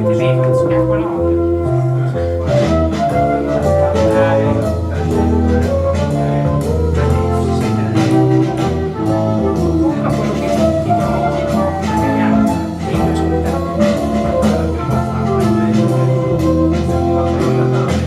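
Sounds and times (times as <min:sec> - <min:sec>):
music over loudspeaker: 0:00.0 - 0:18.0.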